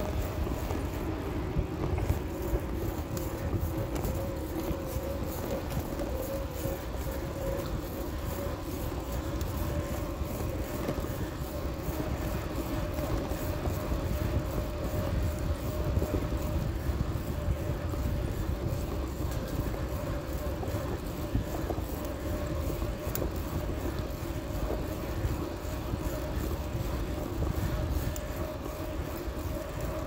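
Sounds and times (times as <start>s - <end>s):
bicycle tyre rumble: 0.0s - 30.0s
constant hum: 0.0s - 30.0s.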